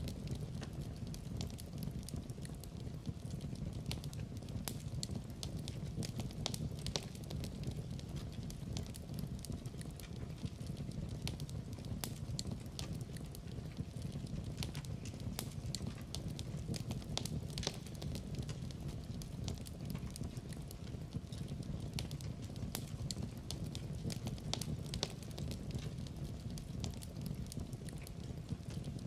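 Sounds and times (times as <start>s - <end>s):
low rumble of flame: 0.0s - 29.0s
wood fire crackling and popping: 0.0s - 29.0s.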